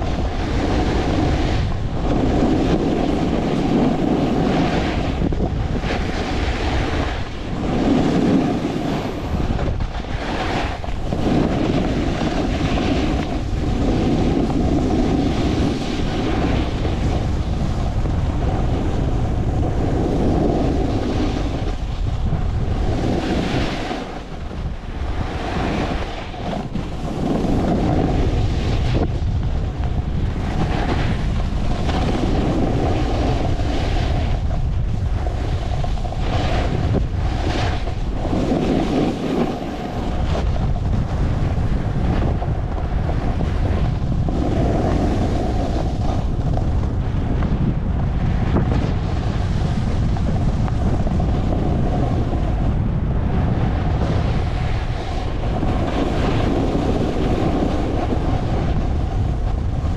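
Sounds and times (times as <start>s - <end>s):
ski edges scraping snow: 0.0s - 29.4s, 30.4s - 46.6s, 53.8s - 59.9s
wind buffeting microphone: 0.0s - 59.9s.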